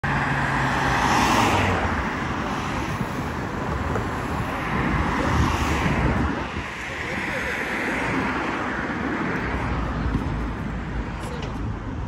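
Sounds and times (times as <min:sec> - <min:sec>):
cars passing close by: 0:00.0 - 0:12.0.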